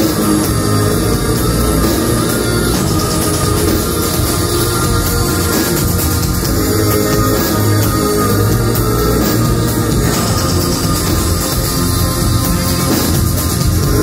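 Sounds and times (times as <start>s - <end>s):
live heavy rock band playing: 0.0s - 14.0s.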